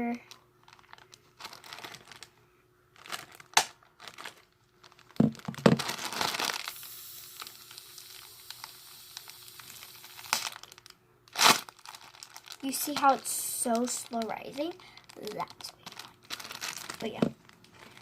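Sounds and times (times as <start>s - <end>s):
plastic bags crinkling: 0.0s - 2.3s, 2.9s - 18.0s.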